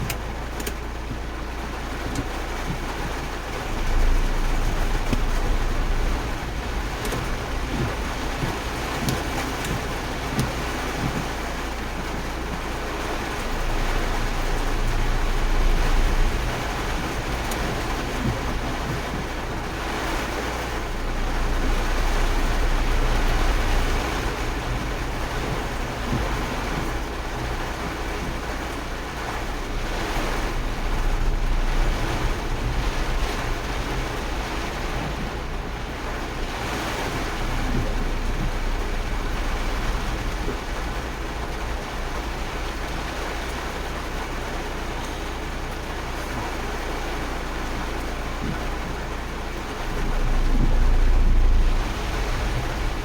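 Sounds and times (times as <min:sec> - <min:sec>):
rushing water and rain: 0:00.0 - 0:53.0
wind rumbling on microphone: 0:00.0 - 0:53.0.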